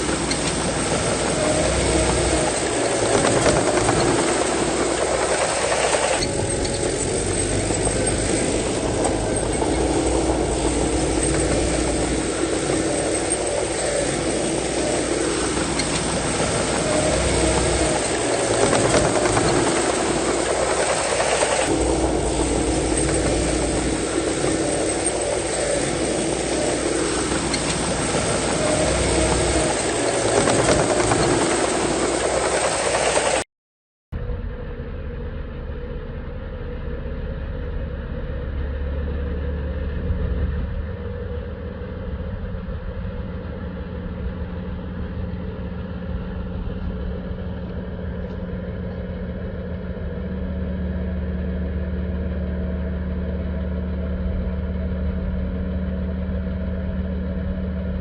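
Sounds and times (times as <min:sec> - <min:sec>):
heavy diesel machinery running: 0:00.0 - 0:33.4, 0:34.2 - 0:58.0.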